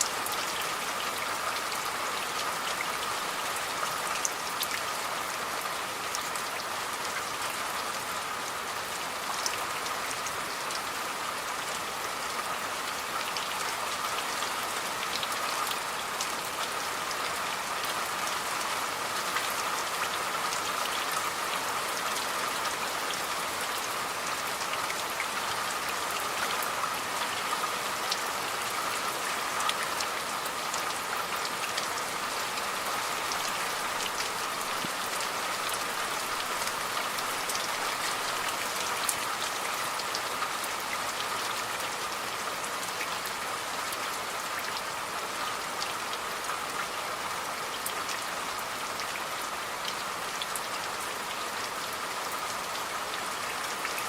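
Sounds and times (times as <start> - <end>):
raindrops striking a surface: 0.0 - 54.0
steady rain falling: 0.0 - 54.0.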